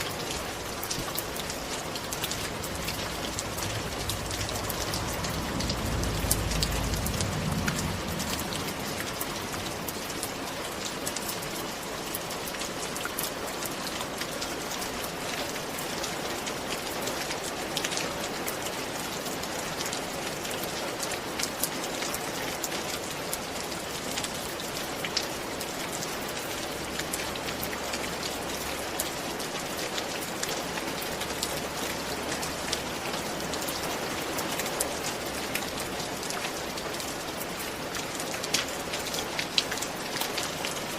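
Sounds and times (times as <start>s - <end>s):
rain falling: 0.0s - 40.9s
raindrops striking a surface: 0.0s - 40.9s.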